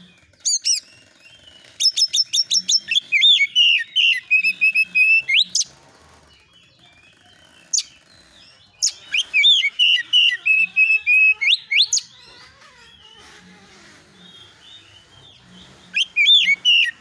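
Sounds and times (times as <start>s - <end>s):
bird singing whistled notes: 0.0s - 5.7s, 6.4s - 12.2s, 14.2s - 17.0s.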